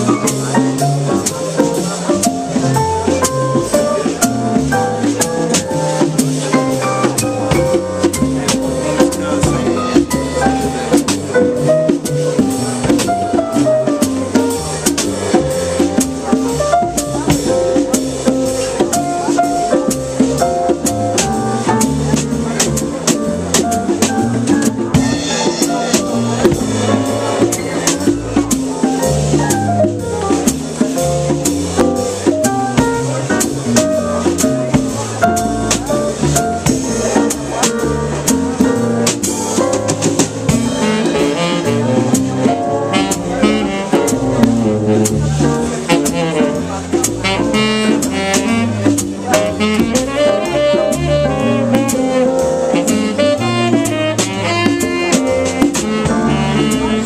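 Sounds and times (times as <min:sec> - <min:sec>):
drum kit strokes: 0:00.0 - 0:57.0
jazz quartet playing: 0:00.0 - 0:57.0.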